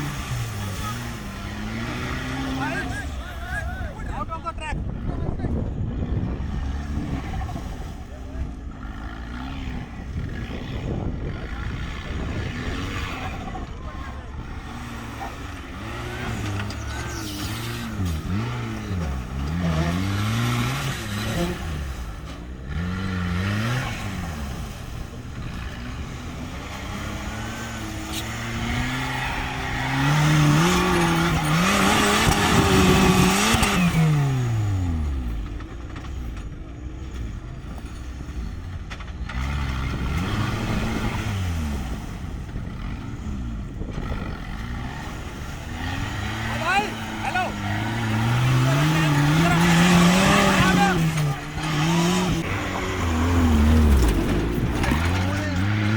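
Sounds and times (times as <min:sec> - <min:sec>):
engine revving hard: 0:00.0 - 0:03.7, 0:08.7 - 0:35.5, 0:39.3 - 0:55.9.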